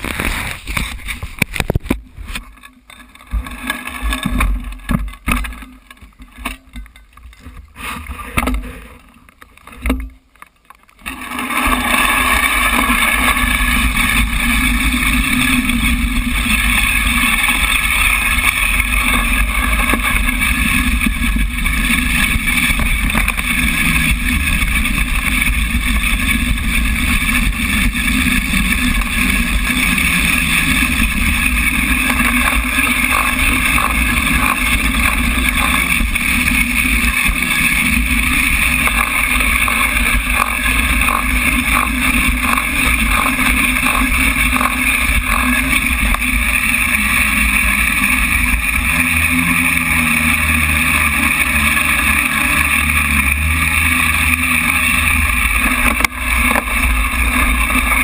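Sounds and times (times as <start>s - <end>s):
bike rattling over ground: 0.0s - 58.0s
bike tyre noise on dirt: 0.0s - 58.0s.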